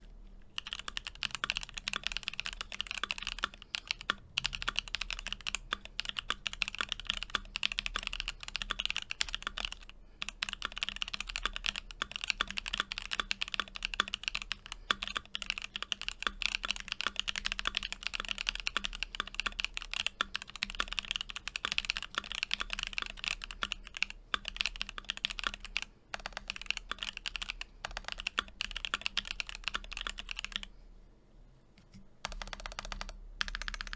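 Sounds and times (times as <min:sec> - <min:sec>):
mechanical keyboard typing: 0:00.4 - 0:30.7, 0:32.2 - 0:33.9.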